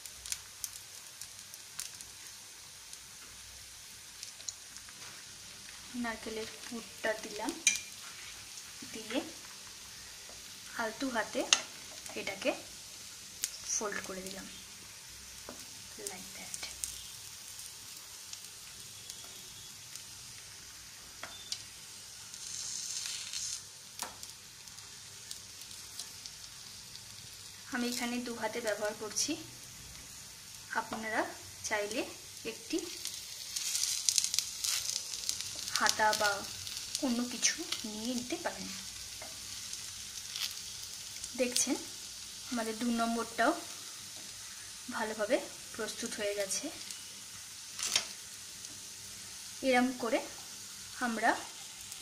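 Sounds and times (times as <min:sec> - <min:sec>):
batter sizzling in a frying pan: 0:00.0 - 0:52.0.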